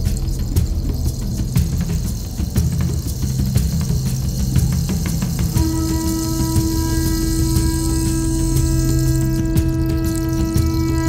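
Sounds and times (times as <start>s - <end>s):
music with heavy bass and steady beat: 0.0s - 11.0s.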